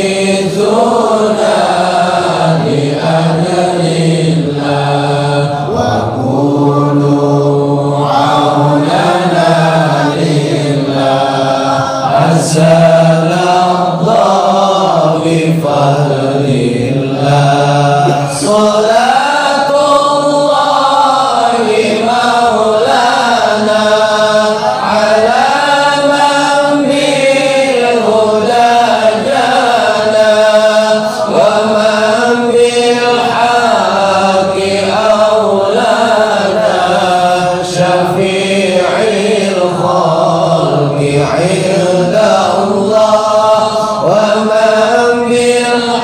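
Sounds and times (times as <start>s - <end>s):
men chanting devotional verses: 0.0s - 46.0s.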